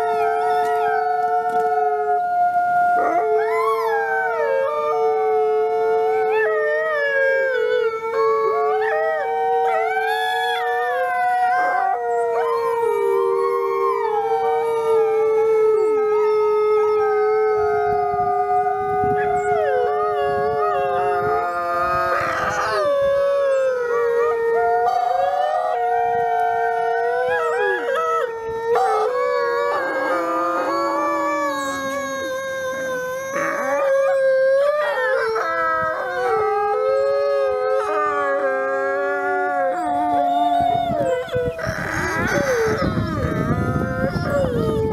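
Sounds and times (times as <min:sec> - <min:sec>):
wolves howling: 0:00.0 - 0:44.9.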